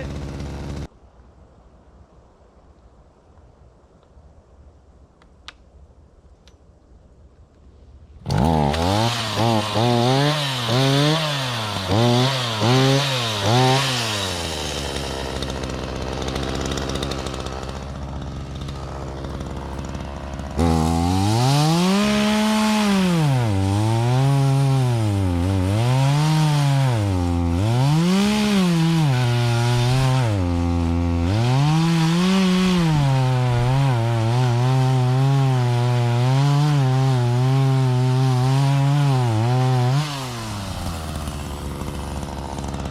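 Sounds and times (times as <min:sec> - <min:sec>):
two-stroke chainsaw revving: 0:00.0 - 0:00.9, 0:08.2 - 0:42.9.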